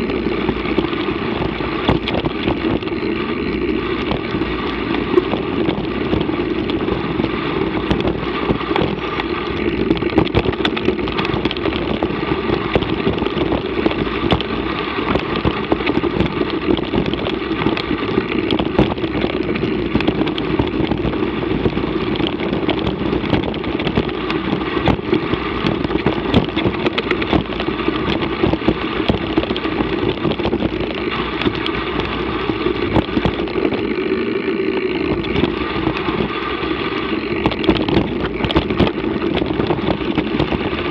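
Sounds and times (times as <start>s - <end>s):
bike rattling clicks: 0.0s - 40.9s
tyres rumbling on dirt: 0.0s - 40.9s
wind: 0.0s - 40.9s.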